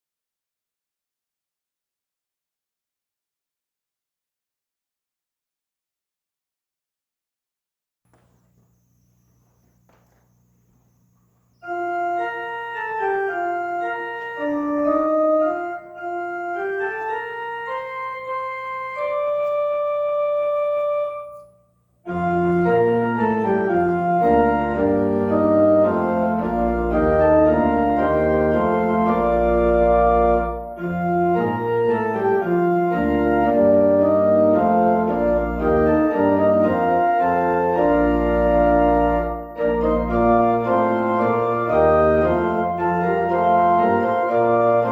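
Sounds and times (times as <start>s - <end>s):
organ playing: 8.2s - 44.9s.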